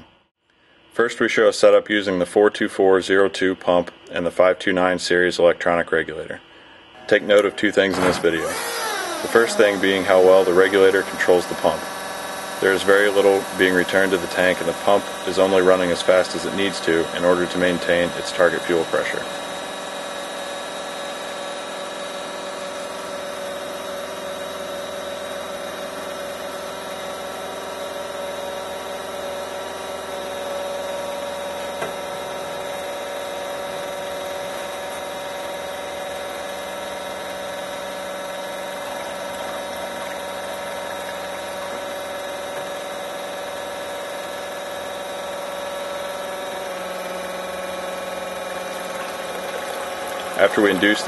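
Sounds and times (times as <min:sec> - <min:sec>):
electric fuel pump whining: 0:06.4 - 0:51.0.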